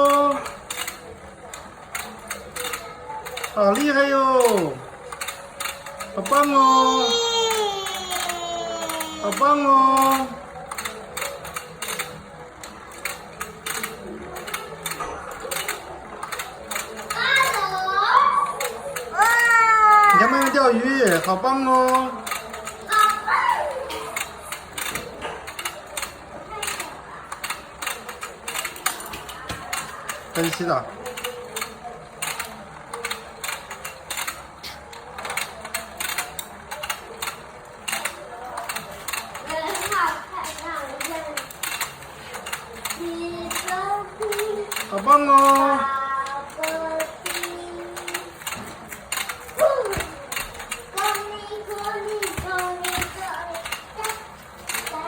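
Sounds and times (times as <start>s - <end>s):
irregular clicking: 0.0s - 6.7s, 7.3s - 17.9s, 18.5s - 23.3s, 23.9s - 55.0s
toy motor and gears whirring: 0.0s - 55.0s.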